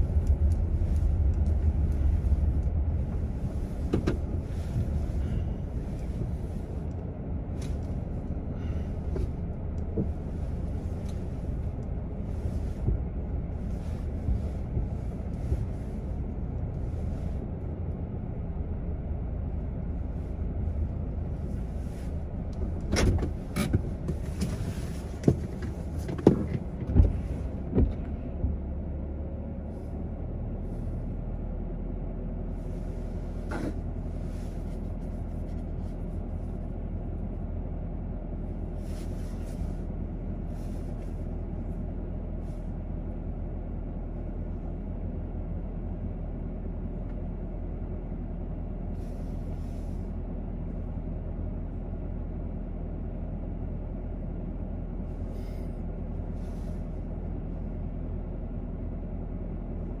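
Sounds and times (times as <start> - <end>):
car engine idling: 0.0 - 60.0.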